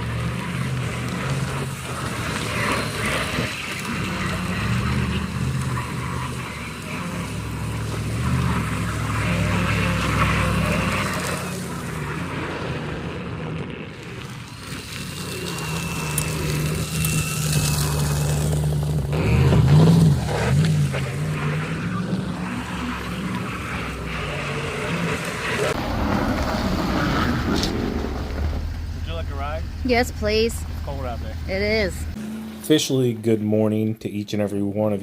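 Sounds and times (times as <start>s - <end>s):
truck engine running: 0.0s - 34.2s.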